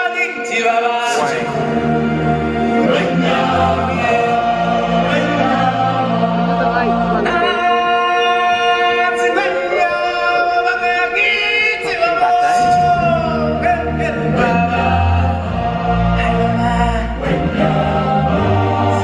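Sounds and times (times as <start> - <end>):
choir singing in harmony: 0.0 - 19.0.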